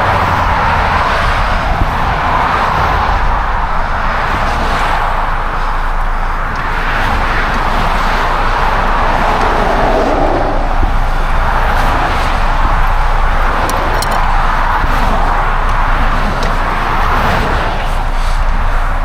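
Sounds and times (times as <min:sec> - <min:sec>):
road traffic rushing by: 0:00.0 - 0:19.0.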